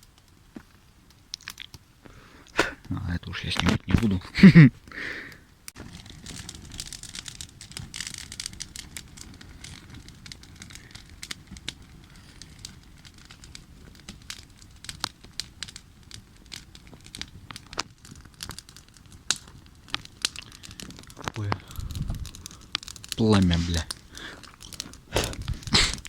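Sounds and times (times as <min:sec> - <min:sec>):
campfire crackling and popping: 0:00.0 - 0:26.0
low rumble of fire: 0:00.0 - 0:26.0.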